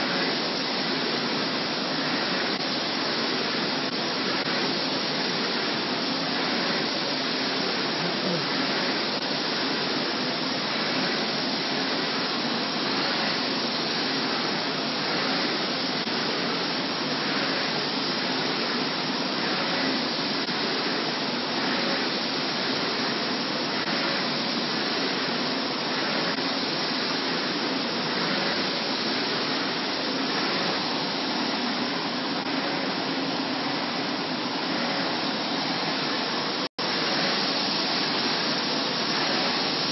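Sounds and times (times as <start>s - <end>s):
flatbed printer running: 0.0s - 39.9s.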